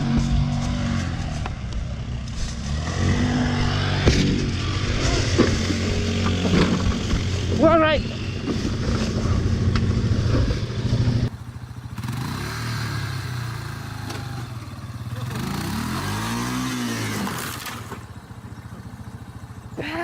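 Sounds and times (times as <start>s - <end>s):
engine revving: 0.0s - 19.8s
loud off-road engine running: 0.0s - 20.0s.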